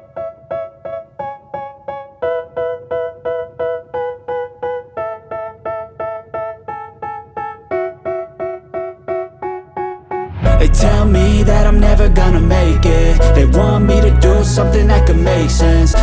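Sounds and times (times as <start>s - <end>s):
keyboard playing repeated chords: 0.0s - 16.0s.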